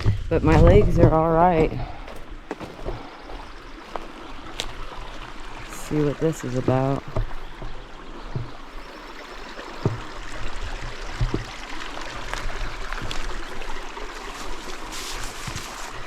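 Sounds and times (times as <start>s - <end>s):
stream water rushing: 0.9s - 16.0s.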